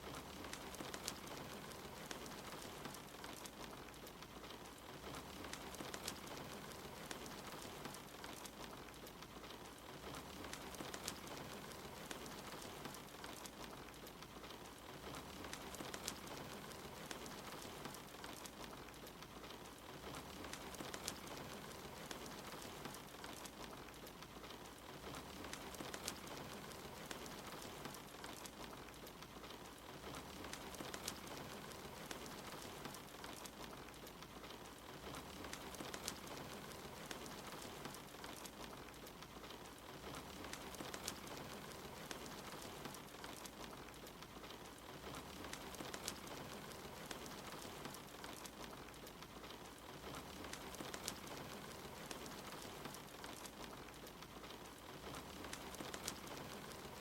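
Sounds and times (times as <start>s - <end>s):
steady rain hiss: 0.0s - 57.0s
wood fire crackling: 0.0s - 57.0s.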